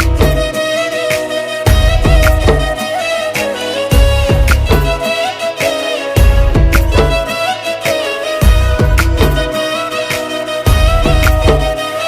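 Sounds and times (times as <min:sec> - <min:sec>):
held melody note: 0:00.0 - 0:12.0.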